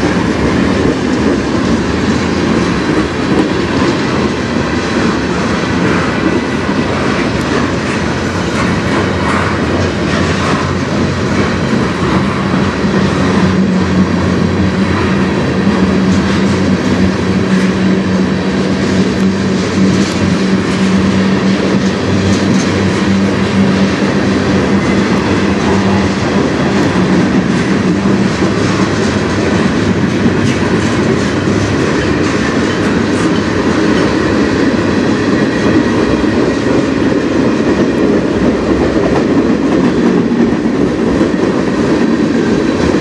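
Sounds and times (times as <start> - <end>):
steel wheels on rail: 0.0 - 43.0
wheels clicking over rail joints: 0.0 - 43.0.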